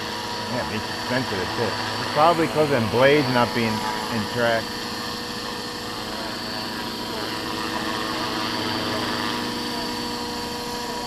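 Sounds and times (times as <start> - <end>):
model helicopter rotors whining: 0.0 - 11.0.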